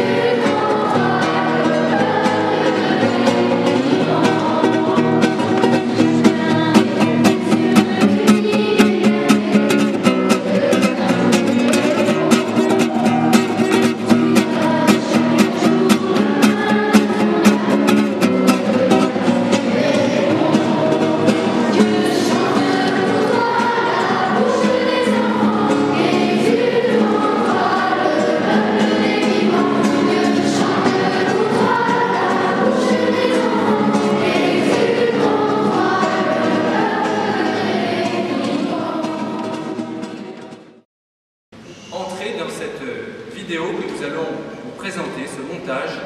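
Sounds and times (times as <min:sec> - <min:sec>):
choir singing: 0:00.0 - 0:40.6.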